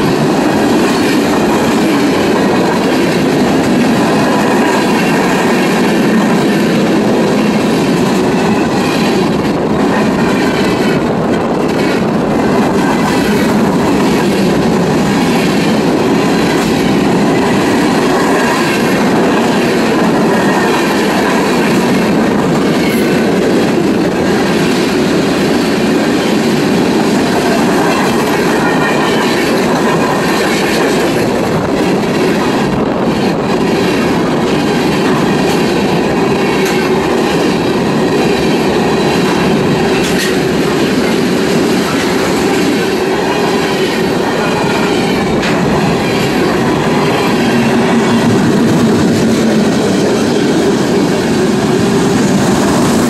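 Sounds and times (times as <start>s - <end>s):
rail clicks: 0.0s - 53.0s
train wheels rumbling on rail: 0.0s - 53.0s.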